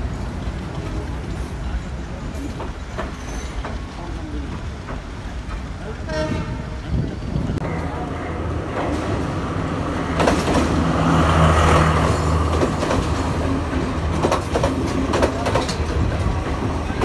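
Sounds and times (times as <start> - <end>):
diesel train engine drone: 0.0 - 17.0
wheels clacking over rail joints: 0.0 - 17.0.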